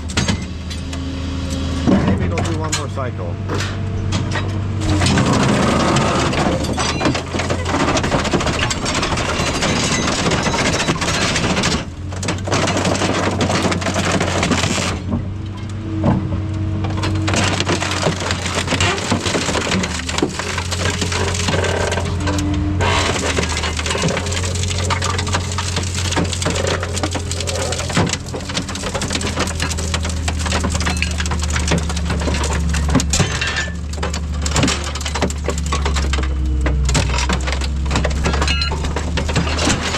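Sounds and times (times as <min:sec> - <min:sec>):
scrap metal crunching: 0:00.0 - 0:39.9.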